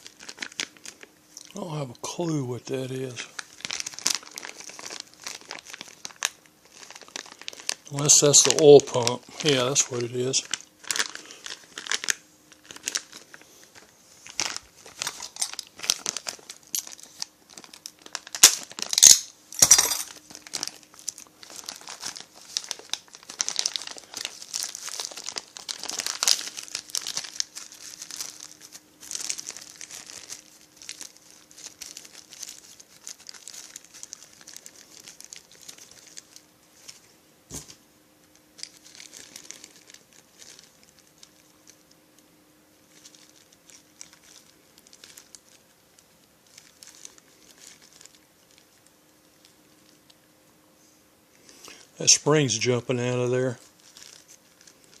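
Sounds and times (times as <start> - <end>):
plastic bags crinkling: 0.0 - 37.7, 38.3 - 42.0, 42.8 - 50.3, 51.4 - 55.0.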